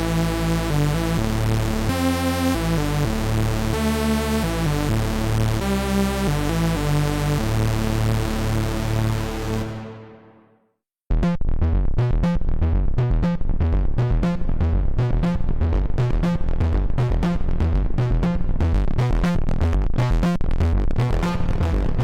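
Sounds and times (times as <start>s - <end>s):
synthesizer bass line plucked notes: 0.0s - 10.5s, 11.1s - 22.0s.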